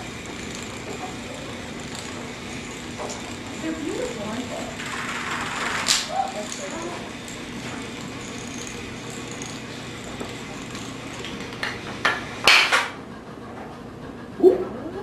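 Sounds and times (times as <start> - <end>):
dominoes toppling and clattering: 0.0 - 12.9.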